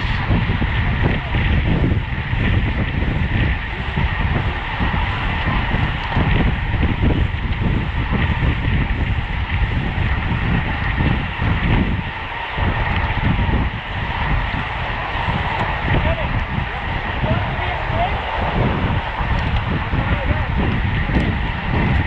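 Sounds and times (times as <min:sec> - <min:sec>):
road and tyre noise: 0:00.0 - 0:22.0
wind buffeting microphone: 0:00.0 - 0:22.0.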